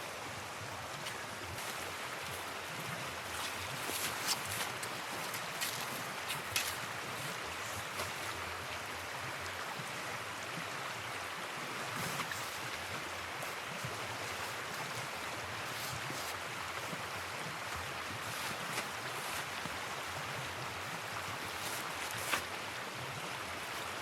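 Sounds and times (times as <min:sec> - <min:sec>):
flowing river water: 0:00.0 - 0:24.0.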